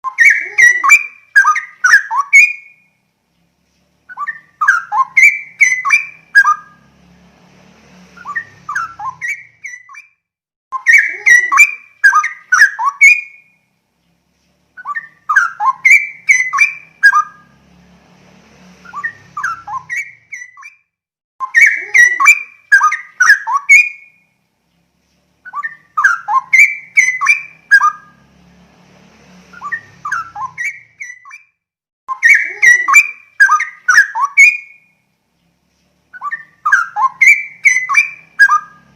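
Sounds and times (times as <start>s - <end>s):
bird singing warbled phrases: 0.0s - 7.2s, 7.9s - 38.9s.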